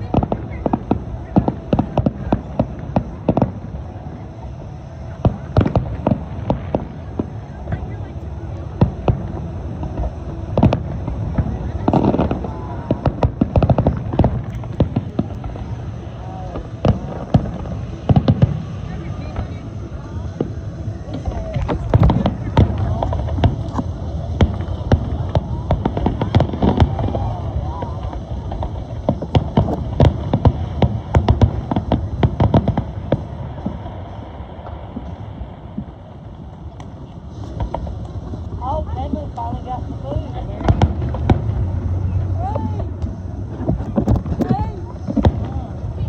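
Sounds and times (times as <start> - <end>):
fireworks banging and crackling: 0.0 - 46.0.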